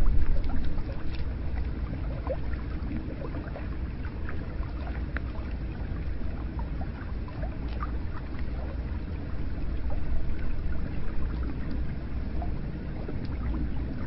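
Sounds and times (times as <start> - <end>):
water drips and gurgles: 0.0 - 14.0.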